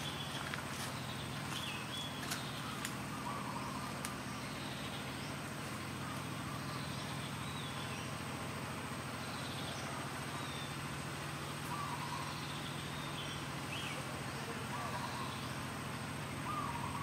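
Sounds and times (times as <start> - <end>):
bird chirping: 0.0 - 17.0
low engine hum: 0.0 - 17.0.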